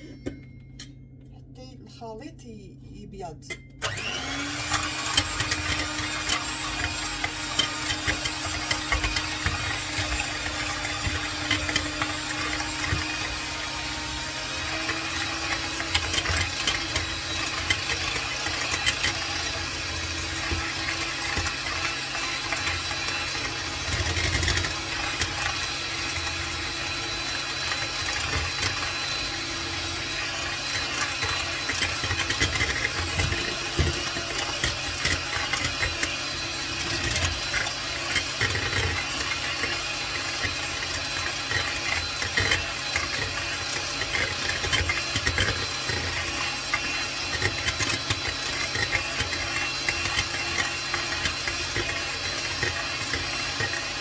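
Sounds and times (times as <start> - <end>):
electric hand mixer running: 3.8 - 54.0.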